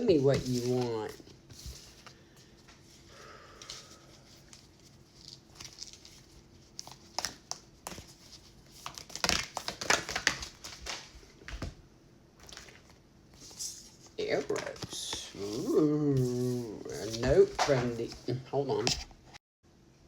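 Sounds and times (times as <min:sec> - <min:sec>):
cards being shuffled: 0:00.1 - 0:03.0, 0:03.6 - 0:11.7, 0:12.4 - 0:19.1.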